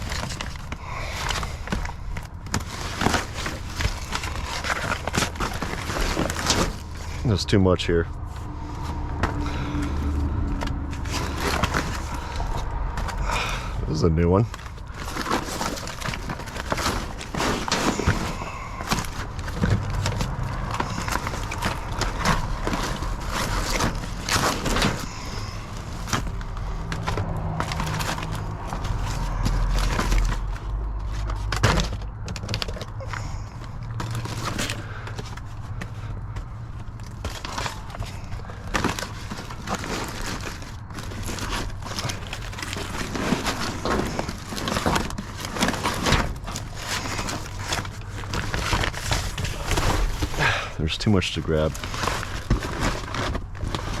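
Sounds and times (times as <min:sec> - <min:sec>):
items knocking and clattering: 0:00.0 - 0:07.4, 0:09.2 - 0:54.0
steady low hum: 0:00.0 - 0:53.8
packaging crinkling and rustling: 0:00.0 - 0:54.0.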